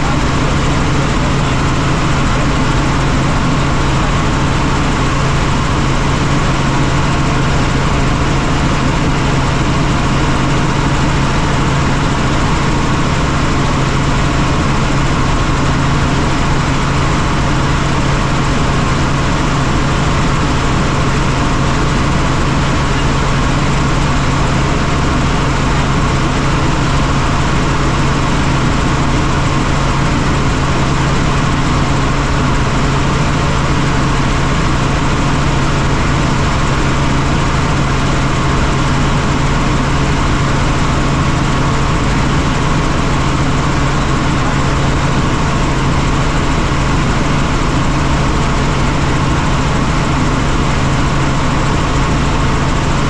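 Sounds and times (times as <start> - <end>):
helicopter rotor and engine: 0.0 - 53.0.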